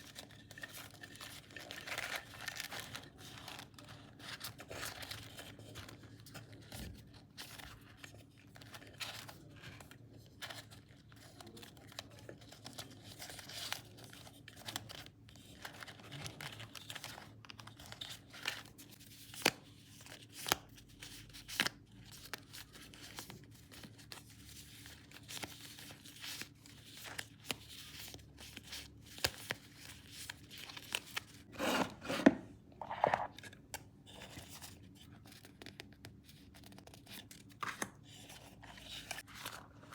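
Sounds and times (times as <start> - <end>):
paper crinkling: 0.0 - 39.9.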